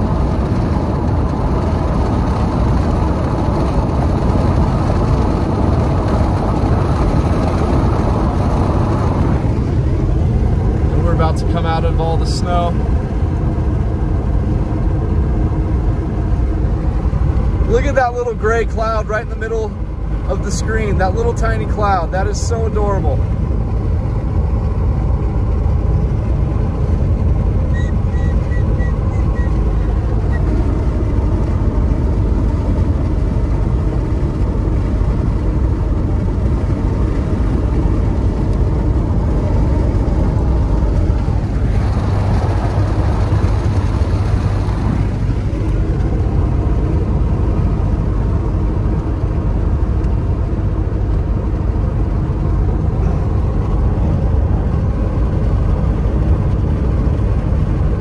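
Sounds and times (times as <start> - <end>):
car road rumble and tyre noise: 0.0 - 58.0.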